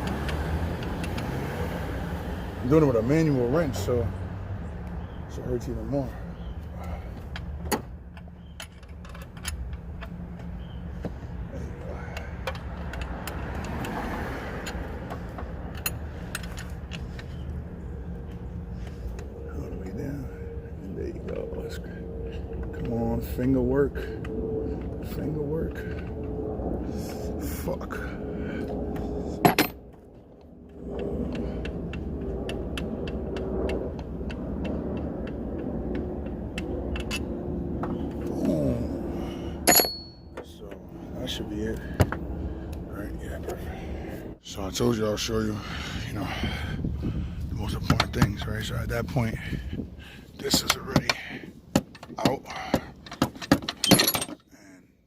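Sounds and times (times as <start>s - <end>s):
steady low rumble: 1.9s - 53.5s.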